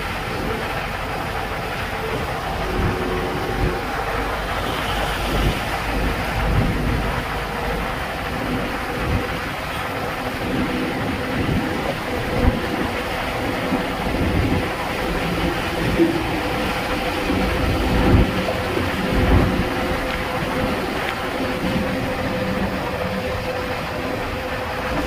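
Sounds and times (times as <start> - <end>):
vehicle road and engine noise: 0.0 - 25.0
wind buffeting microphone: 0.0 - 25.0.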